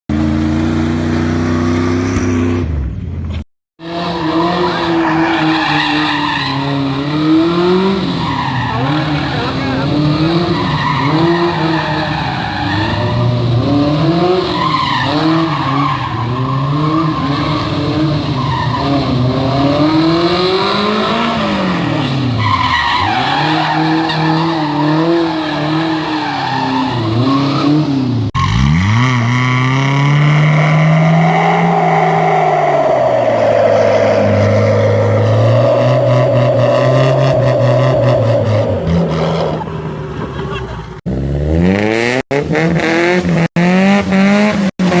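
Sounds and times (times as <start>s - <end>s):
engines revving: 0.1s - 45.0s
tyres squealing and skidding: 3.8s - 41.0s.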